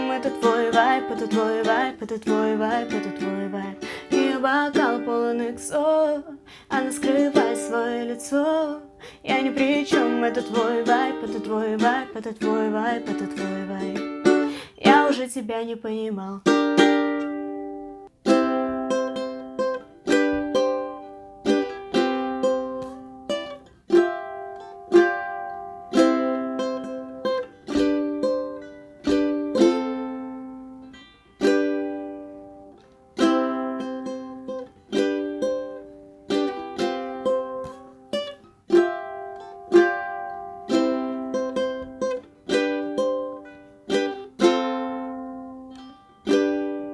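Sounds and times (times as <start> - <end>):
ukulele chords strummed: 0.0 - 15.4, 16.4 - 46.9.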